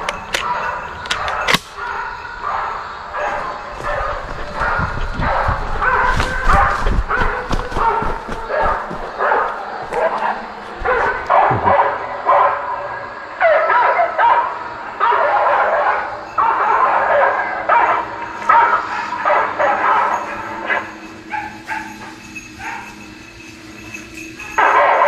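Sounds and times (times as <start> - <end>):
hounds barking: 0.0 - 25.0.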